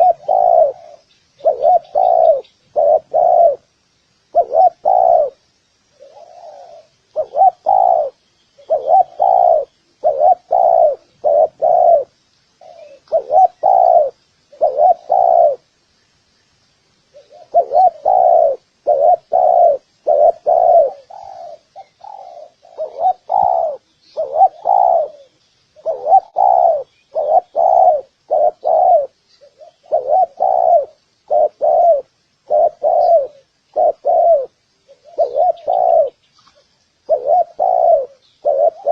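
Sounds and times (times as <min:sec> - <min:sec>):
doves cooing: 0:00.0 - 0:03.7, 0:04.3 - 0:05.4, 0:06.0 - 0:15.7, 0:17.1 - 0:38.9.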